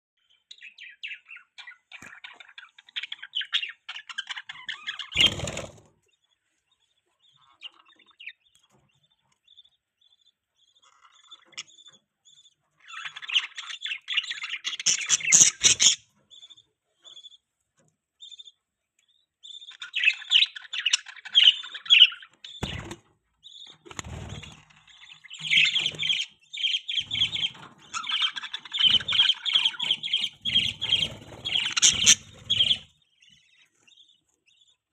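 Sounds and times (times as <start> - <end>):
budgerigars chirping: 0.2 - 17.5, 18.2 - 34.9.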